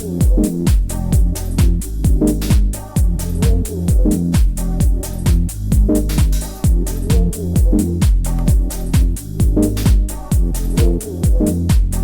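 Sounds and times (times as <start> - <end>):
four-on-the-floor kick drum: 0.0 - 12.0
repeating falling bass line: 0.0 - 12.0.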